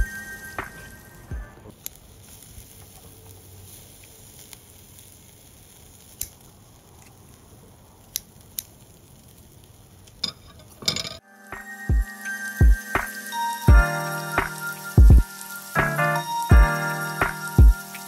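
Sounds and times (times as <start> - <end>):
meat sizzling on a grill: 0.0 - 1.1, 1.7 - 18.0.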